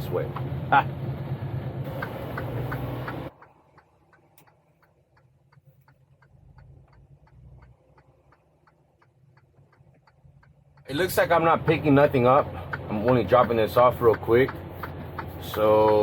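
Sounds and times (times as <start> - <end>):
truck cab and engine noise: 0.0 - 16.0
turn signal clicking: 0.2 - 0.6, 1.8 - 16.0.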